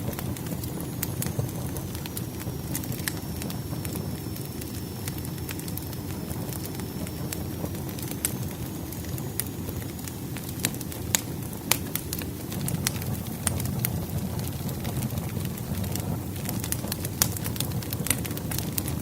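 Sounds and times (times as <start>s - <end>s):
fire crackling and popping: 0.0s - 19.0s
wood fire burning: 0.0s - 19.0s.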